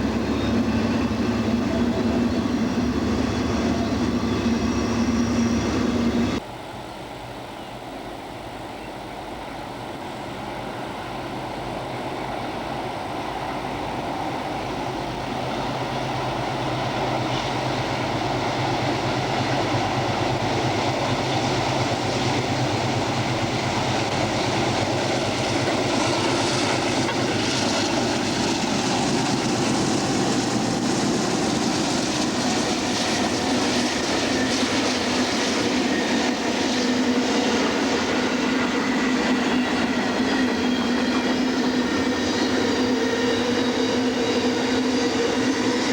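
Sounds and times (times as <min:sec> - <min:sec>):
locomotive engine hum: 0:00.0 - 0:45.9.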